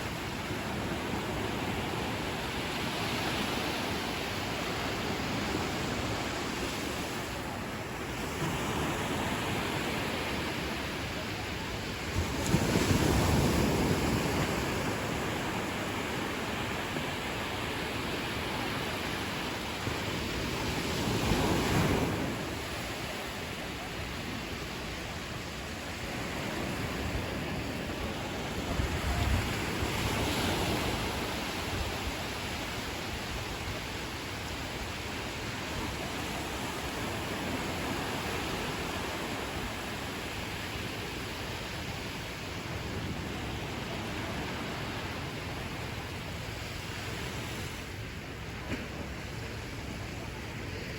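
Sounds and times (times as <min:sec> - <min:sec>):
ocean surf washing on beach: 0:00.0 - 0:50.9
waves breaking: 0:00.0 - 0:50.9.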